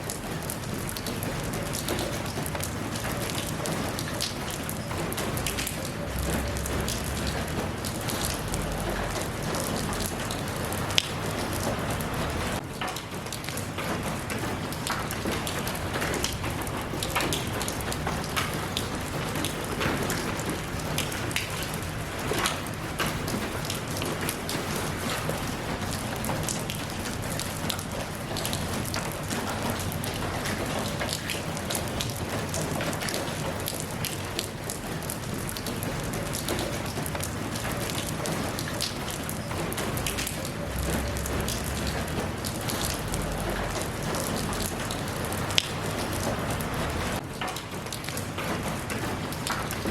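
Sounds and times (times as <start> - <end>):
raindrops pattering on surfaces: 0.0 - 49.9
steady rain hissing: 0.0 - 49.9.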